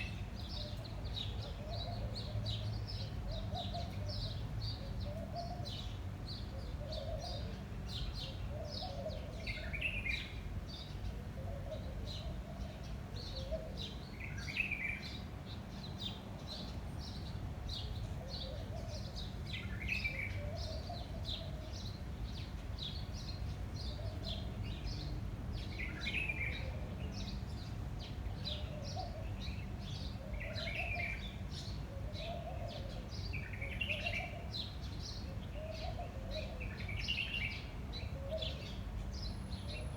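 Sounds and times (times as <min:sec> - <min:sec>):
low rumble of wind: 0:00.0 - 0:39.9.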